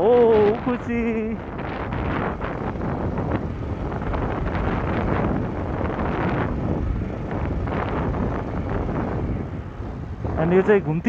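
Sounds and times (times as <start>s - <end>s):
motorcycle engine: 0.0s - 10.9s
wind rushing over microphone: 0.0s - 11.0s.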